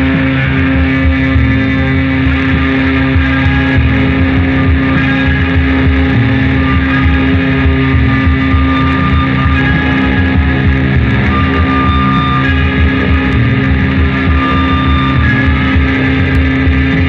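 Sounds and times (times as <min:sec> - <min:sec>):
held drone tone: 0:00.0 - 0:17.0
noise rock with electric guitars: 0:00.0 - 0:17.0.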